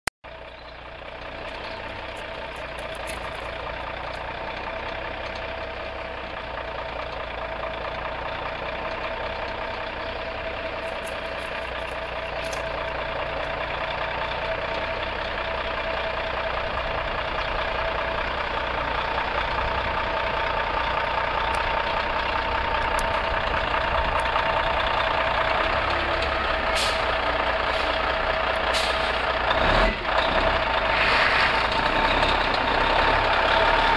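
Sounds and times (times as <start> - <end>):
diesel truck engine running: 0.2 - 33.9.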